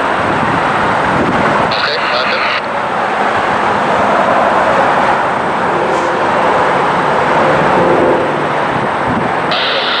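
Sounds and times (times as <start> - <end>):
heavy highway traffic: 0.0 - 10.0
faint engine drone: 1.6 - 10.0.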